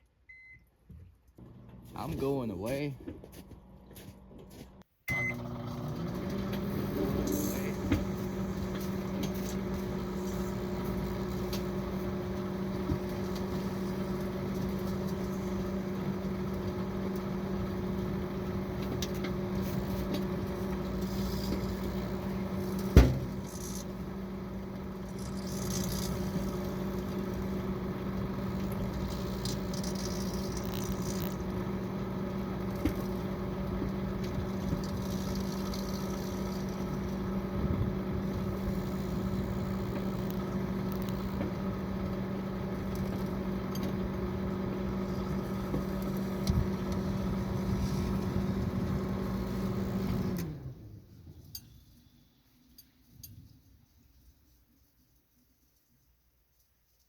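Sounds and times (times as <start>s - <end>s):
microwave oven humming: 1.4s - 51.1s.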